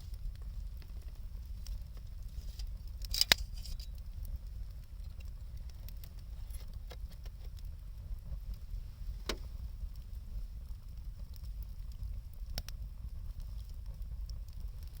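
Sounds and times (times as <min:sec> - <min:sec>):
campfire crackling: 0:00.0 - 0:15.0
low steady fire rumble: 0:00.0 - 0:15.0.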